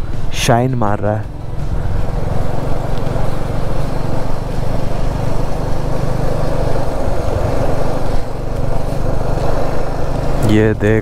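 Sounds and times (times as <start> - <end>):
motorcycle engine running: 0.0 - 11.0
steady rushing noise: 0.0 - 11.0.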